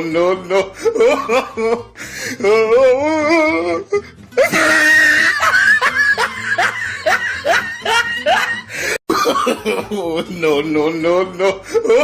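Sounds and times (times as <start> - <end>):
man laughing hysterically: 0.2 - 2.7, 3.9 - 12.0.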